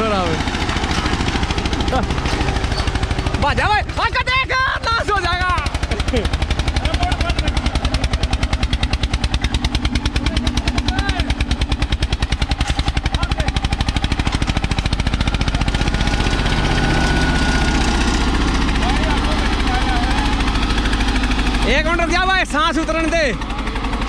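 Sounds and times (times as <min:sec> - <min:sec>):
tractor diesel engine labouring: 0:00.0 - 0:24.0.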